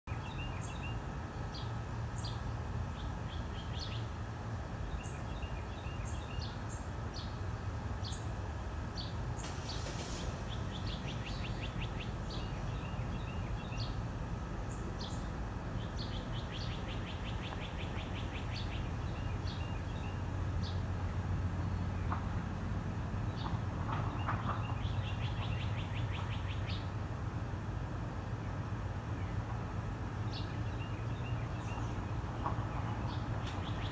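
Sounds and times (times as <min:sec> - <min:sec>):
small birds chirping: 0:00.1 - 0:27.0, 0:28.2 - 0:33.9.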